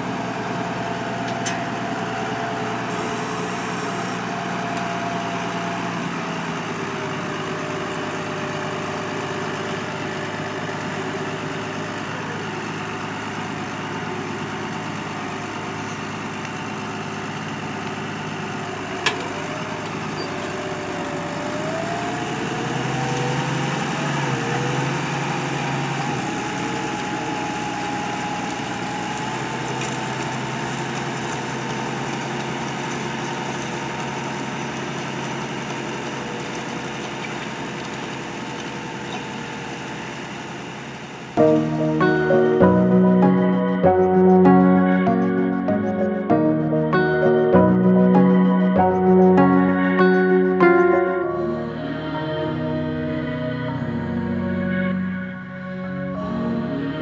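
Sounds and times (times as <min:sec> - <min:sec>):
tractor engine running: 0:00.0 - 0:51.8.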